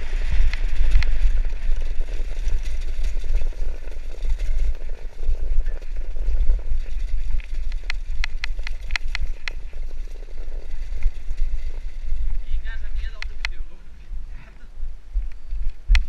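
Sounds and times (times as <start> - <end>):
sharp clicks and rattles: 0.0 - 13.6
bike rattling: 0.0 - 14.4
bike tyres rumbling on cobblestones: 0.0 - 16.0.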